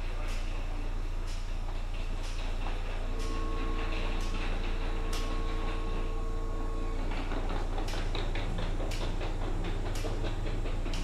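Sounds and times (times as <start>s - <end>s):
rhythmic clicking: 0.0s - 11.0s
train cabin rumble: 0.0s - 11.0s.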